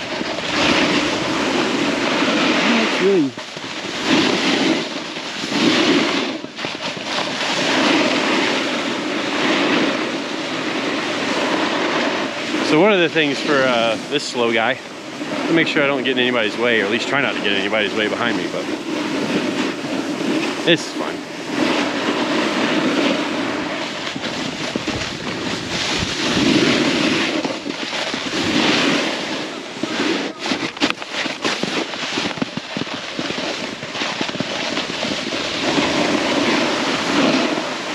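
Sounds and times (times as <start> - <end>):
skis scraping on icy slope: 0.0 - 37.9
wind rushing over microphone: 0.0 - 37.9.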